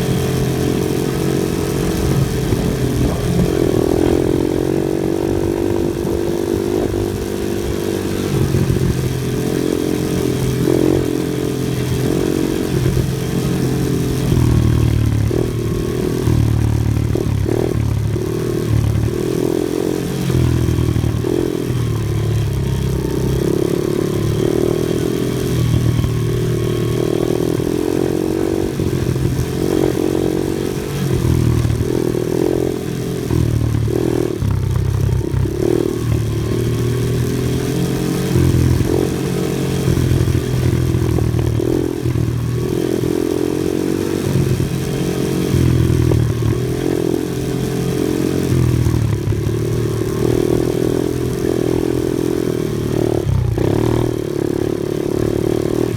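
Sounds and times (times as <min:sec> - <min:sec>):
off-road vehicle engine: 0:00.0 - 0:55.9.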